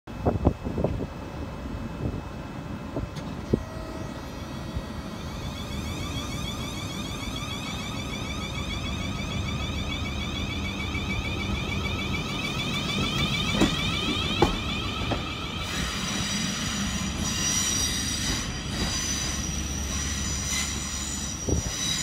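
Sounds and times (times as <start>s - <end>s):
wheels rumbling on rail: 0.1s - 22.0s
electric traction whine: 3.4s - 22.0s.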